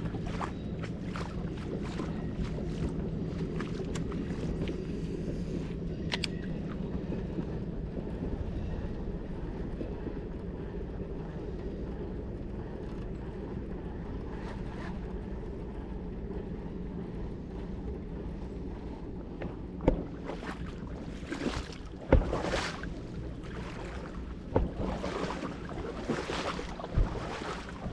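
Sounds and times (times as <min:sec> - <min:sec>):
moving water around boat: 0:00.0 - 0:27.9
wind rumble: 0:00.0 - 0:27.9.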